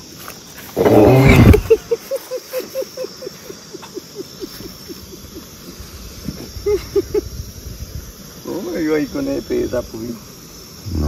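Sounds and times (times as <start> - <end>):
faint night insects: 0.0 - 11.0.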